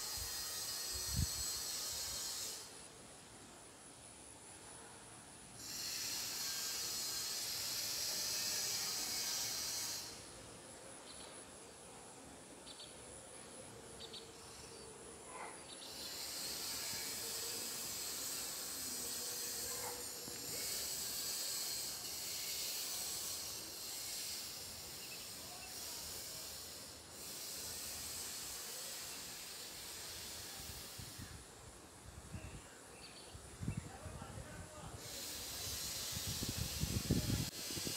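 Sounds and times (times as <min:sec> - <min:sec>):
insects droning: 0:00.0 - 0:37.9.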